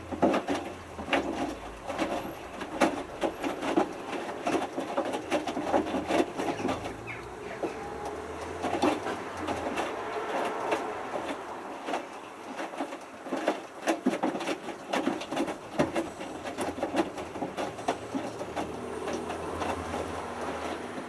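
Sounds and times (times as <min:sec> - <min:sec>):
washing machine motor hum: 0:00.0 - 0:21.0
wet laundry splashing in drum: 0:00.0 - 0:21.0.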